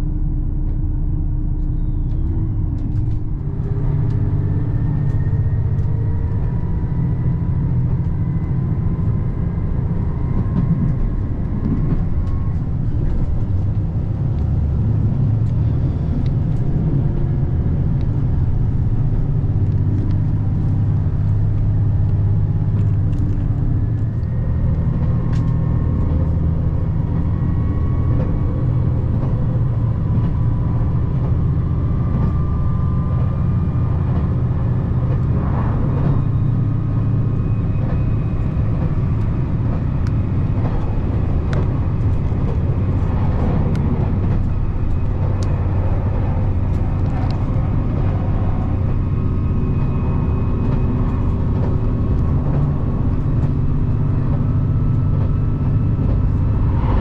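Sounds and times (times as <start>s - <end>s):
diesel train rumble from inside: 0.0s - 57.0s.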